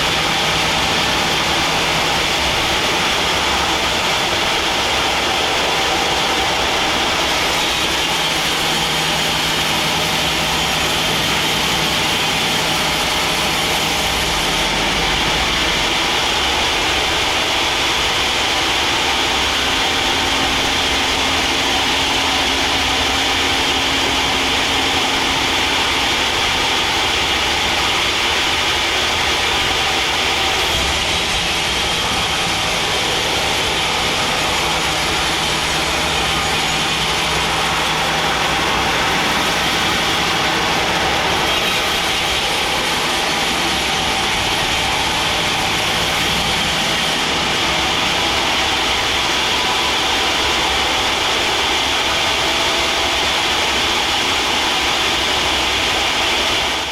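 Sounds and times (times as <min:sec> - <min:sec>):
sawmill machine drone: 0:00.0 - 0:56.9.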